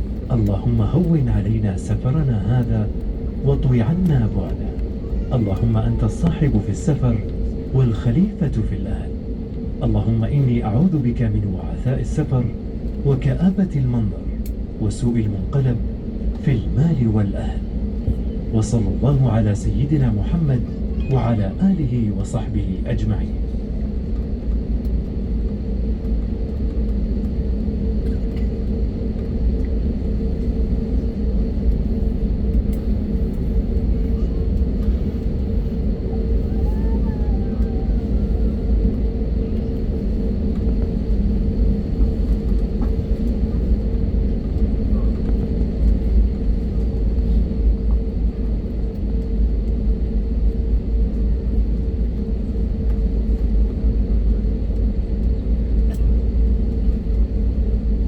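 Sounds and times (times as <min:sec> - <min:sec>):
jet engine rumble in cabin: 0:00.0 - 0:58.0
steady whine: 0:00.0 - 0:58.0.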